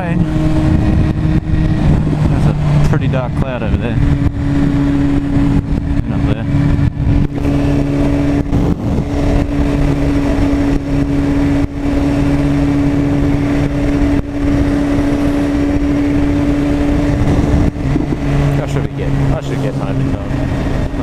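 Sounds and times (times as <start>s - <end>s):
motorcycle engine running steadily: 0.0s - 21.0s
wind rush over microphone: 0.0s - 21.0s.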